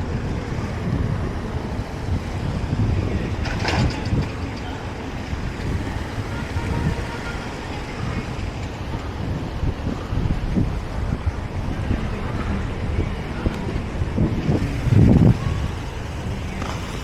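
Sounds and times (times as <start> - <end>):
boat rumbling on water: 0.0 - 17.0
wind buffeting microphone: 0.0 - 17.0.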